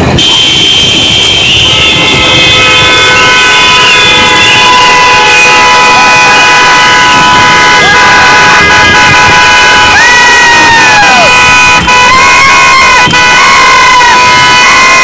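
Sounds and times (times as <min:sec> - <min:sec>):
vehicle horns blasting: 0:00.0 - 0:15.0.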